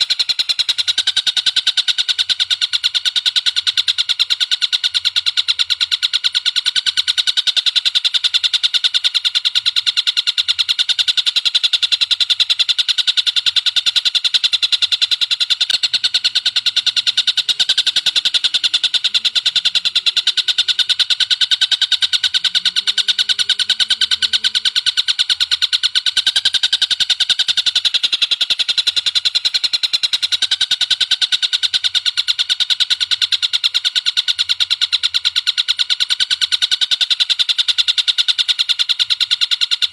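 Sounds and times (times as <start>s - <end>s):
bird calling rapid high notes: 0.0s - 8.1s, 9.0s - 35.4s.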